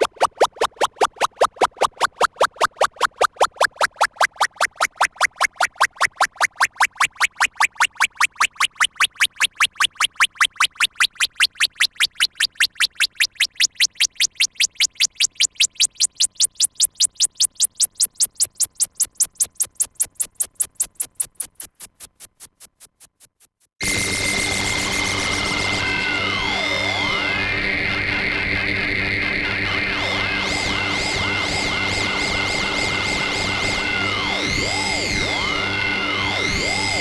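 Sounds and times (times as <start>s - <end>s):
rising electronic beeping pulses: 0.0s - 27.5s, 29.7s - 37.0s.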